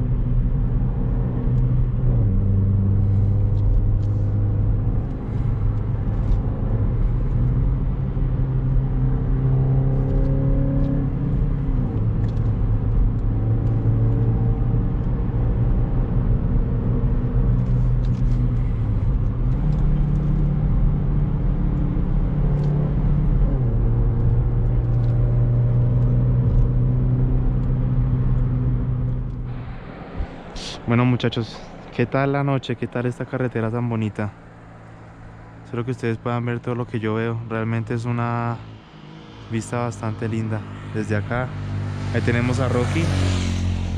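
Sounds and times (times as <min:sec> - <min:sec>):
car engine under load: 0:00.0 - 0:43.9.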